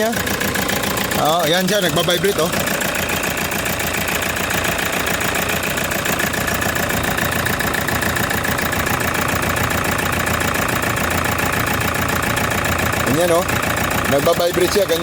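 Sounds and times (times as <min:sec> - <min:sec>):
diesel engine idling rough: 0:00.0 - 0:15.0.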